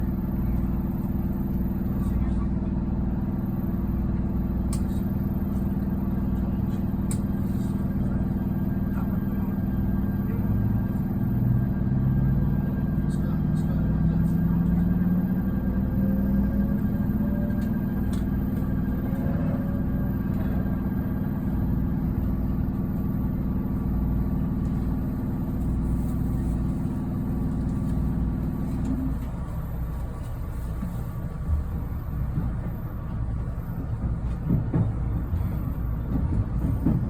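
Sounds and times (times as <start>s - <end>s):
electric train motor hum and whine: 0.0s - 37.0s
train rolling rumble: 0.0s - 37.0s.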